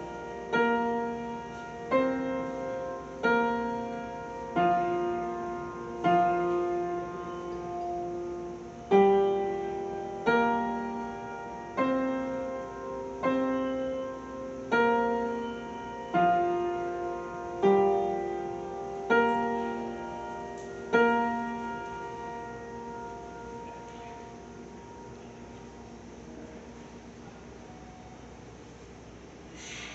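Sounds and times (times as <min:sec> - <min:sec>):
piano playing slow chords: 0:00.0 - 0:29.6.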